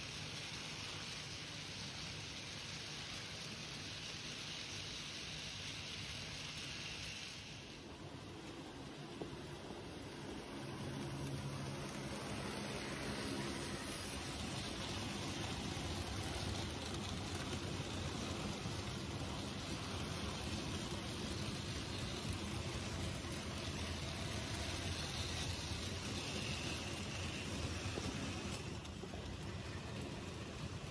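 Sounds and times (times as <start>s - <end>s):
model train motor hum: 0.0s - 30.9s
wheels on rails: 0.0s - 30.9s.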